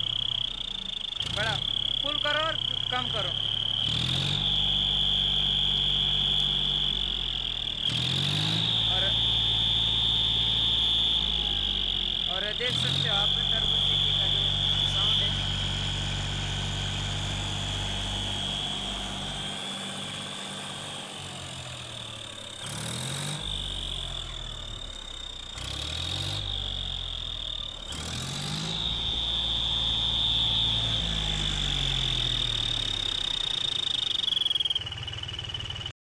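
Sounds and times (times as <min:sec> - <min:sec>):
high exhaust whistle: 0:00.0 - 0:35.9
tractor engine running: 0:00.0 - 0:36.0.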